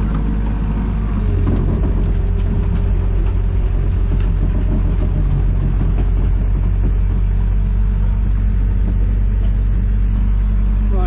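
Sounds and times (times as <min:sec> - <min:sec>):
excavator engine rumbling: 0:00.0 - 0:11.0.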